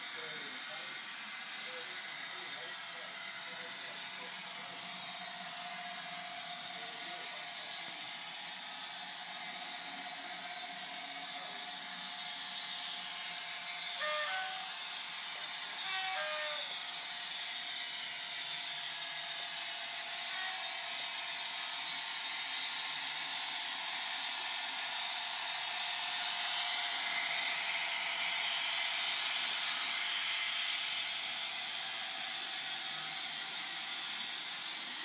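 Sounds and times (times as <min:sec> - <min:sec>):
model motor and wheels whirring: 0:00.0 - 0:35.0.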